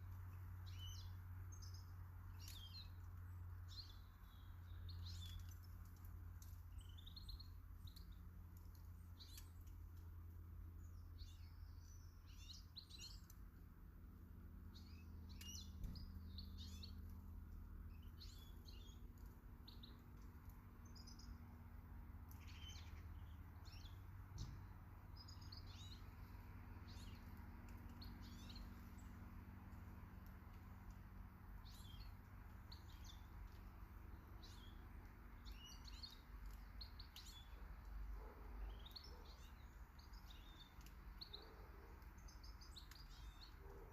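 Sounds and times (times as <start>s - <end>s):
birds chirping: 0.0s - 43.9s
low steady hum: 0.0s - 43.9s.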